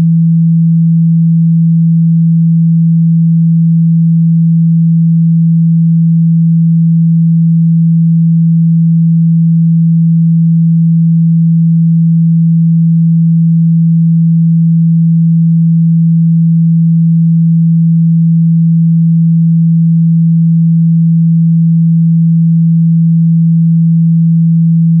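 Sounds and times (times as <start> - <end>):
sine-wave test tone: 0.0 - 25.0.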